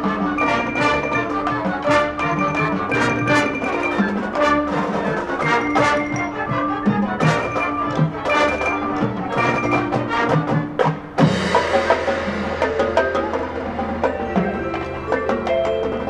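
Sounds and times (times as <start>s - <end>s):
drum strokes: 0.0s - 16.0s
marching band playing: 0.0s - 16.0s
ringing mallet percussion notes: 0.3s - 10.4s, 12.7s - 16.0s.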